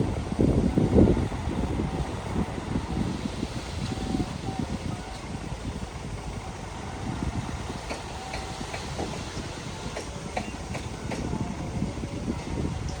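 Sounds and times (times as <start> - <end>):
bulldozer diesel engine rumbling: 0.0 - 13.0.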